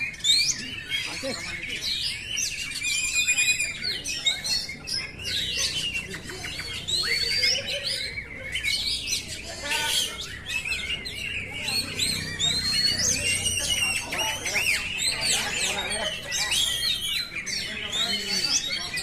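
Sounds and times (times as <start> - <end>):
bird singing whistled song: 0.0 - 15.7.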